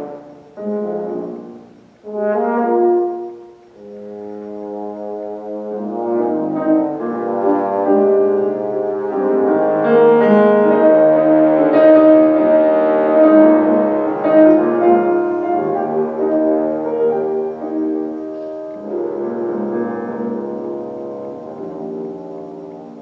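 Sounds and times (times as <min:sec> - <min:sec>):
french horn: 0:00.0 - 0:23.0
piano: 0:00.0 - 0:23.0.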